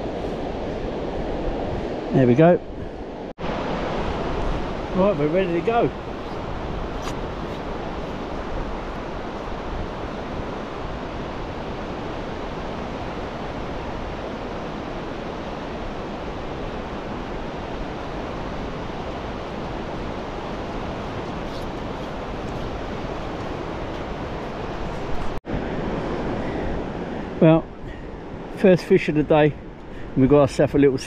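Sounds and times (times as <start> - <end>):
wind on microphone: 0.0 - 28.6
surf washing over sand: 3.4 - 31.0.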